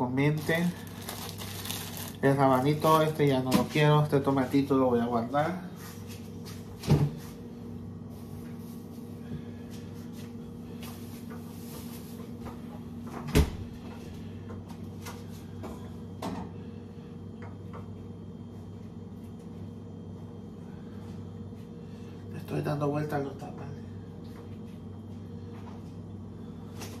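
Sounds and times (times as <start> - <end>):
appliance hum: 0.0 - 27.0.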